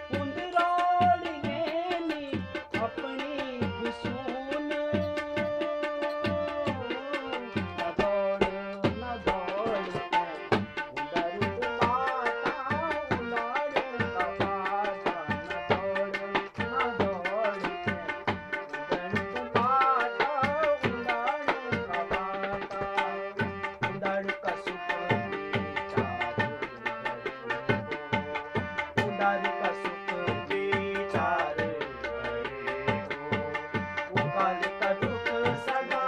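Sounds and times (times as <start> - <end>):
tabla played by hand: 0.0 - 36.0
man singing folk song: 0.1 - 18.2, 18.9 - 36.0.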